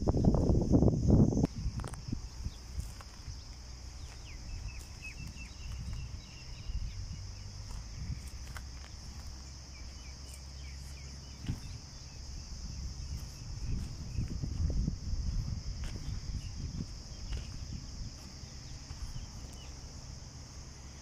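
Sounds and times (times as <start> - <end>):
insects droning: 0.0 - 21.0
wind rumbling on microphone: 0.0 - 21.0.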